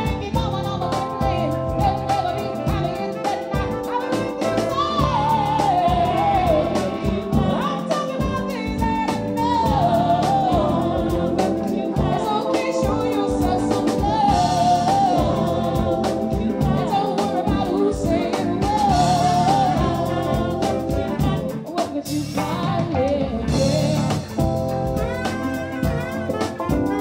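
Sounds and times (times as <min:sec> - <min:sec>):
woman singing: 0:00.0 - 0:24.5
drums steady beat: 0:00.0 - 0:27.0
keyboards: 0:00.0 - 0:27.0.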